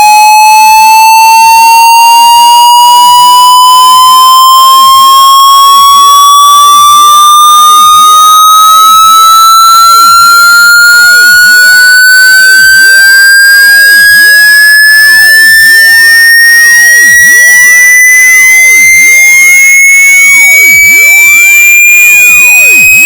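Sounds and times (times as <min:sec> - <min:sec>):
electronic tone gliding upward: 0:00.0 - 0:23.0.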